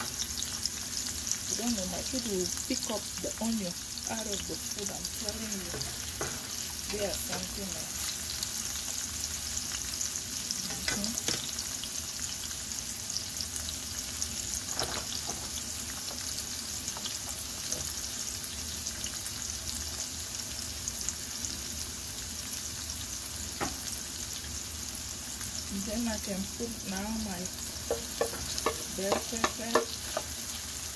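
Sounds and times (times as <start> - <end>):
vegetables sizzling in oil: 0.0 - 30.9.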